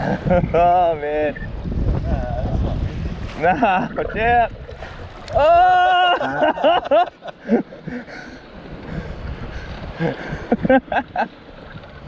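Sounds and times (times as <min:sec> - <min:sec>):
wind and choppy waves: 0:00.0 - 0:12.0.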